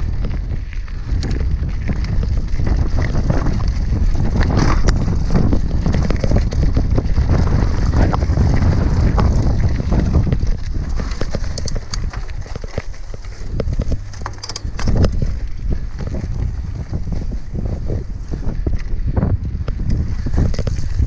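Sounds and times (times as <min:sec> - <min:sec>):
bike rattling and knocking: 0:00.0 - 0:21.0
wind rumble on microphone: 0:00.0 - 0:21.0
tyres crunching over stones: 0:00.2 - 0:18.6.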